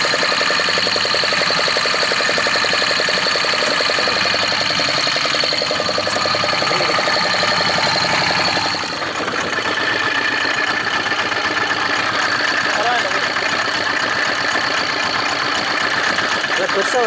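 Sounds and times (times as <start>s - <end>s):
boat engine chugging: 0.0s - 17.0s
high engine whine: 0.0s - 17.0s.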